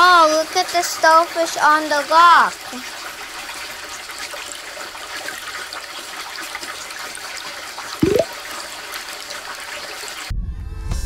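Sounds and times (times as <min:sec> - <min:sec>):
running water: 0:00.0 - 0:10.2.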